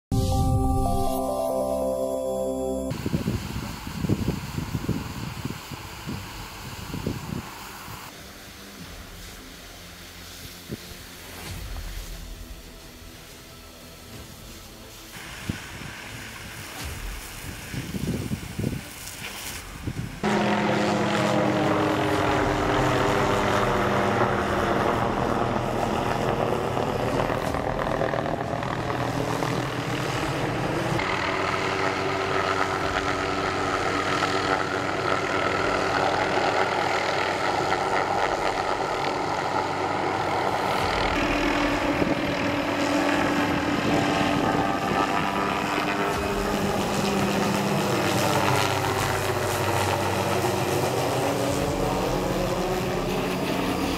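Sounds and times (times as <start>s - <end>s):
helicopter flying overhead: 2.9s - 53.9s.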